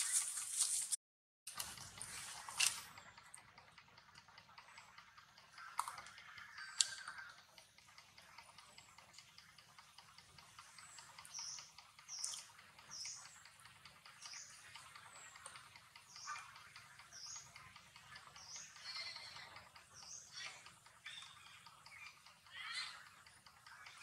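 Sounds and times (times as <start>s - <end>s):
sharp clicks: 1.5s - 24.0s
fast even ticking: 2.6s - 24.0s.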